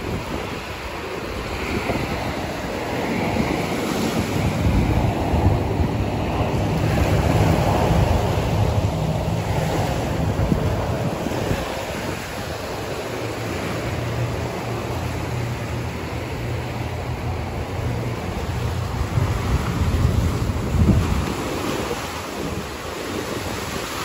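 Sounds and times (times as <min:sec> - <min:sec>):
small waves breaking on sand: 0:00.0 - 0:24.0
wind rumbling on microphone: 0:00.0 - 0:24.0.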